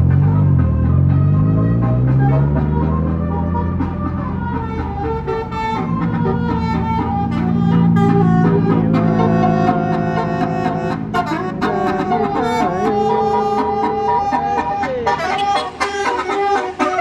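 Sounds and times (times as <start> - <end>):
bus engine rumble: 0.0 - 17.0
melodic bus horn playing a tune: 0.0 - 17.0.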